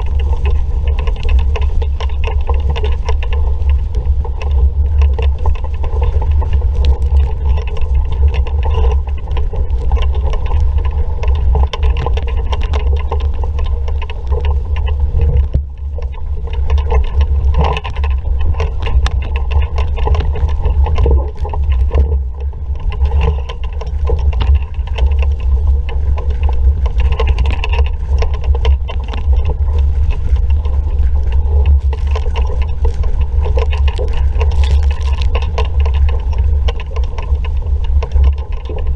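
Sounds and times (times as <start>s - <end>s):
wind buffeting microphone: 0.0s - 38.9s
small knocks and clicks: 0.1s - 38.9s.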